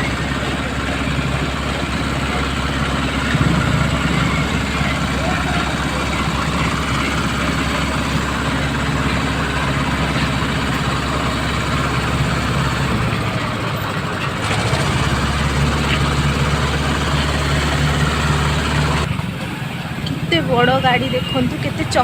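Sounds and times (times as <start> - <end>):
truck engine deep hum: 0.0 - 22.0.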